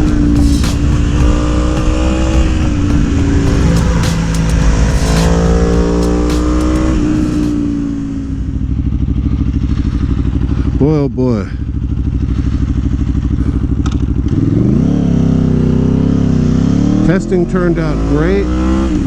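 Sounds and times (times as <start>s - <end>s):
motorcycle engine while riding: 0.0s - 19.0s.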